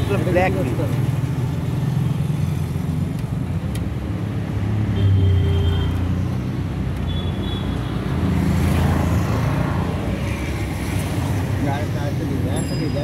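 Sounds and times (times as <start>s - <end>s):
rumble of motor traffic: 0.0s - 13.0s.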